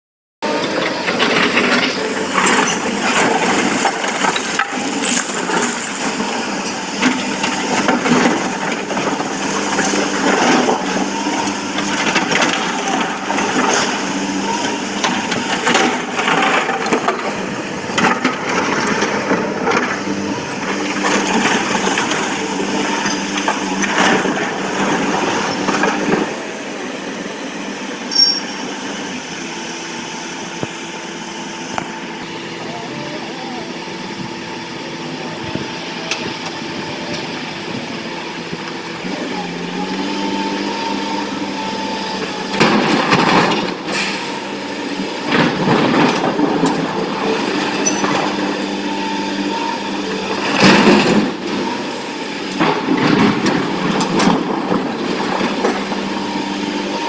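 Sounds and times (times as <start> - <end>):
excavator diesel engine running: 0.4 - 57.0.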